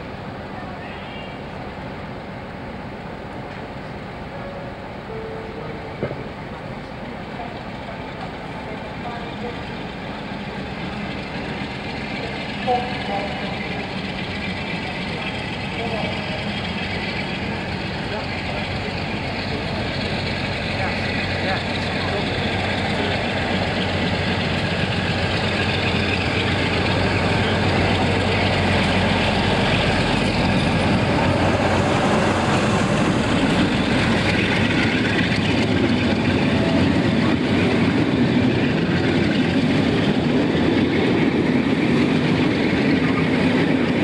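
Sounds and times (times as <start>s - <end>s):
locomotive engine hum: 0.0s - 44.0s
train wheels rumbling on rails: 0.0s - 44.0s.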